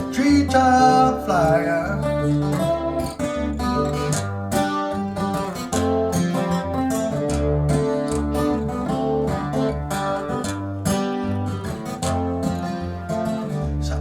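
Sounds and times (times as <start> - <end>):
acoustic guitar strumming: 0.0 - 14.0
bass line: 0.0 - 14.0.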